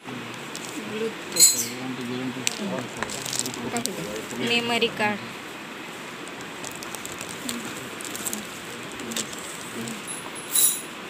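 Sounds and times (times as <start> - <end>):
room tone hiss: 0.0 - 11.0.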